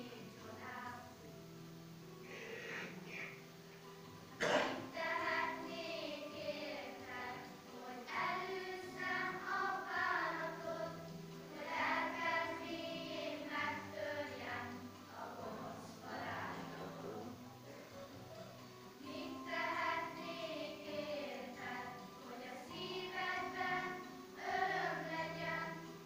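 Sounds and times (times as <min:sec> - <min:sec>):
children's choir singing: 0:00.0 - 0:01.4, 0:04.3 - 0:26.0.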